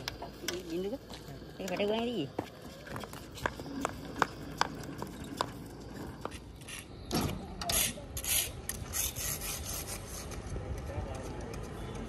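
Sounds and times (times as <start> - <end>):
marking shoe scraping on road: 0.0 - 12.0.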